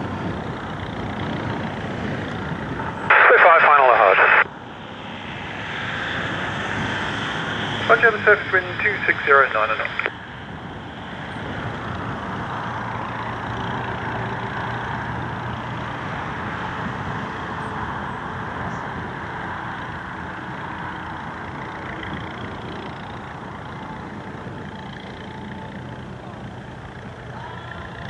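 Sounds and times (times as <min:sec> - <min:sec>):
distant propeller plane engine drone: 0:00.0 - 0:28.0.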